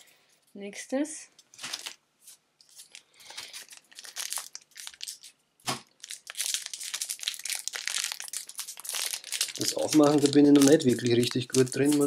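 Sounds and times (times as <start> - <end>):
foil wrapper tearing and crinkling: 1.6 - 2.0, 2.6 - 12.0.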